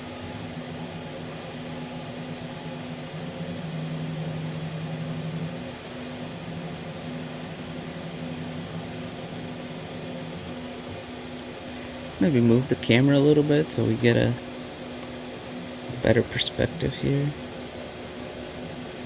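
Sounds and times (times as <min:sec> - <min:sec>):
shop machinery hum: 0:00.0 - 0:19.0.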